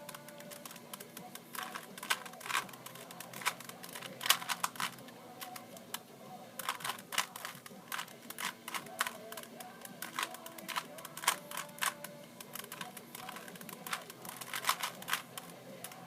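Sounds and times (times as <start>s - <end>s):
puzzle cube plastic clicks: 0.0s - 16.0s.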